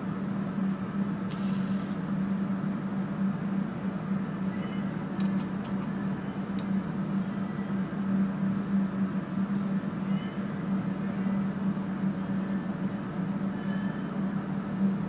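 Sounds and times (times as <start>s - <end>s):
fans droning: 0.0s - 15.0s.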